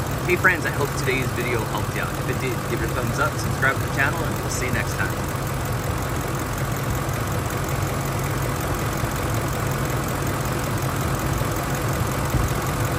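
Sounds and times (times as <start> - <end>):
cooling fan spinning: 0.0 - 12.9
vehicle engine idling: 0.0 - 12.9.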